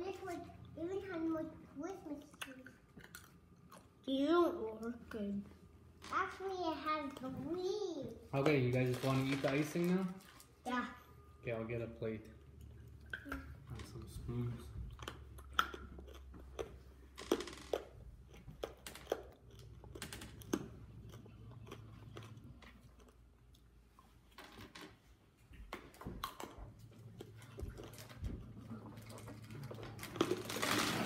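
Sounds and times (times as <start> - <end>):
children chewing candy: 0.0 - 5.9, 12.0 - 31.0.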